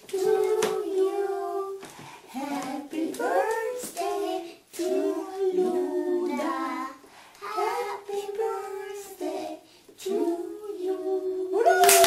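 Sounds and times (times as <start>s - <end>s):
young children singing: 0.0s - 11.6s.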